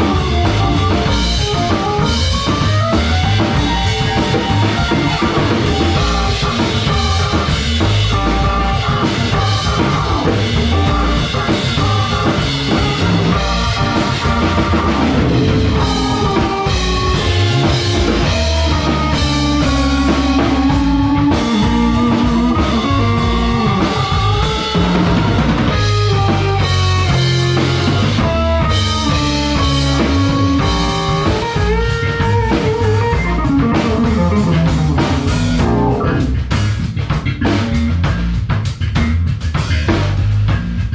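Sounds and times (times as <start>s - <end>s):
electric guitar melody: 0.0s - 38.2s
drum kit: 0.0s - 40.9s
electric bass: 0.0s - 40.9s
keyboard: 0.0s - 40.9s.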